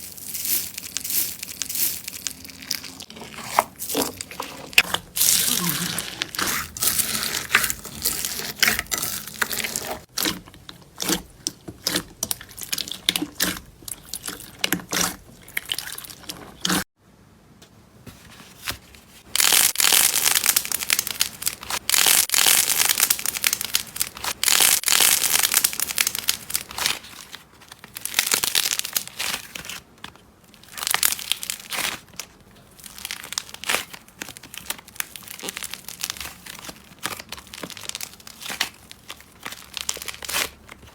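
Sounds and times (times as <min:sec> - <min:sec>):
slime crackling and popping: 0:00.0 - 0:16.8, 0:19.4 - 0:27.1, 0:27.7 - 0:29.7, 0:30.6 - 0:32.1, 0:32.8 - 0:40.9.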